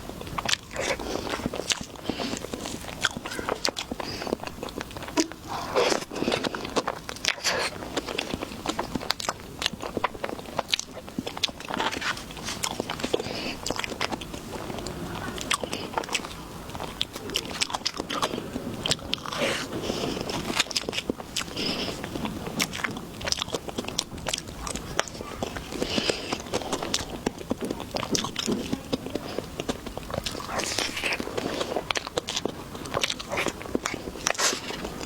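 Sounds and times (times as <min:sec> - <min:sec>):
crunchy chewing: 0:00.0 - 0:35.0.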